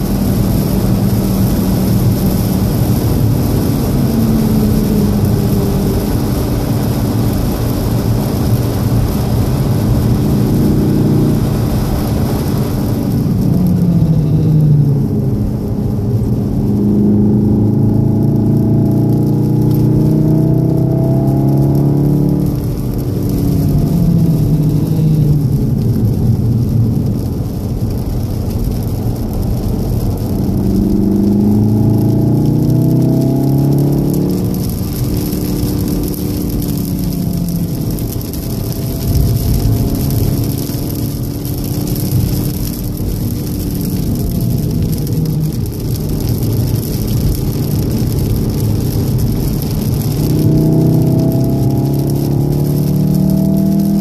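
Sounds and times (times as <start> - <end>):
car engine rumble: 0.0 - 54.0
tyre noise on wet road: 0.0 - 54.0.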